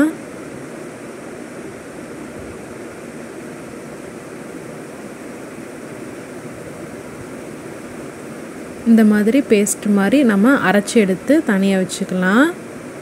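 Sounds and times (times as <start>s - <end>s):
steady background hiss and rumble: 0.0s - 13.0s.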